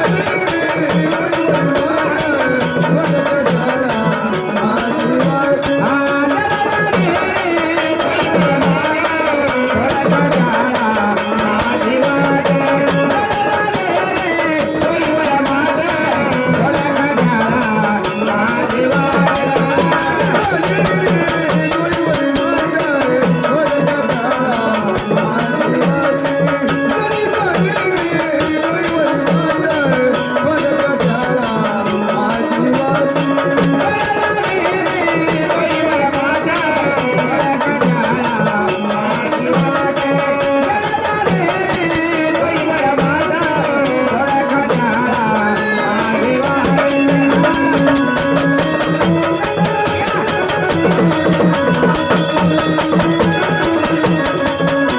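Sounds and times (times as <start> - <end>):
fast hand-drum percussion: 0.0 - 54.9.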